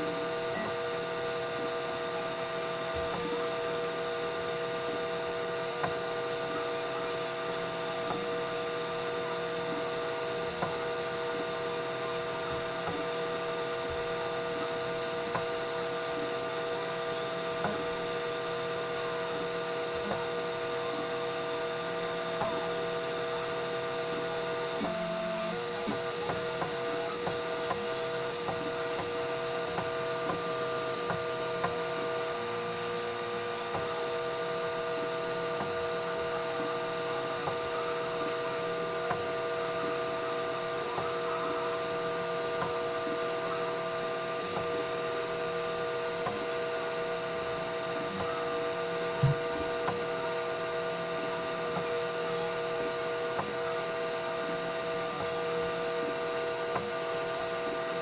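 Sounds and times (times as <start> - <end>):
printer stepper motors whining: 0.0 - 58.0.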